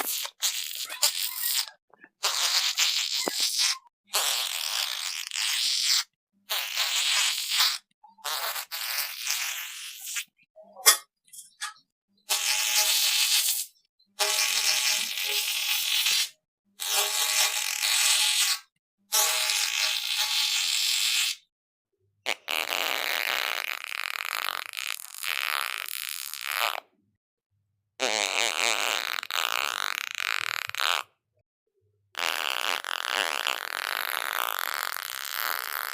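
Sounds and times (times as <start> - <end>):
buzzy spluttering fart sounds: 0.0 - 11.1, 12.2 - 21.5, 22.2 - 27.0, 28.0 - 31.2, 32.1 - 35.9.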